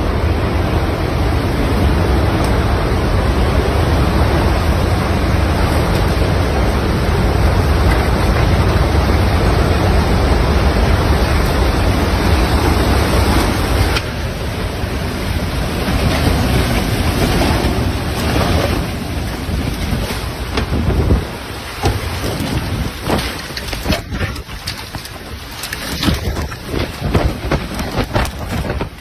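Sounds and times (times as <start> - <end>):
strong wind blowing across microphone: 0.0 - 29.0.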